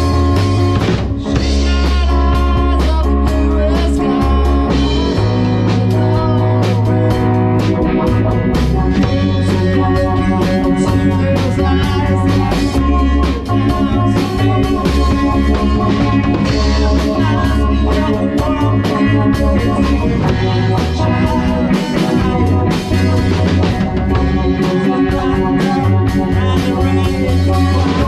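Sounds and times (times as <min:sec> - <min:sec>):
drum kit: 0:00.0 - 0:28.0
electric guitars: 0:00.0 - 0:28.0
person singing: 0:00.0 - 0:28.0.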